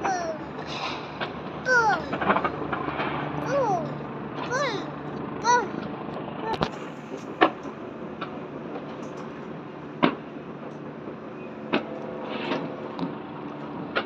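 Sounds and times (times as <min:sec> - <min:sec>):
city hum: 0:00.0 - 0:14.0.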